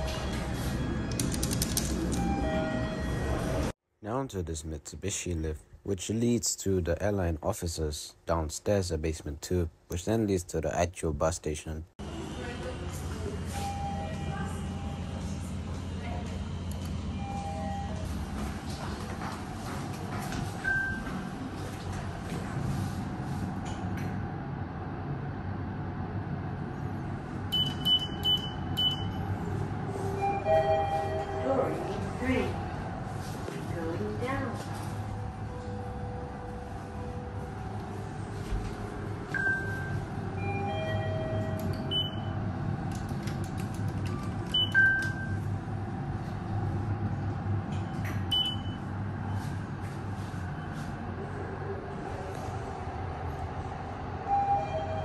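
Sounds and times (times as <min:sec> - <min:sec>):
lift car low hum: 0:00.0 - 0:03.8, 0:12.0 - 0:55.0.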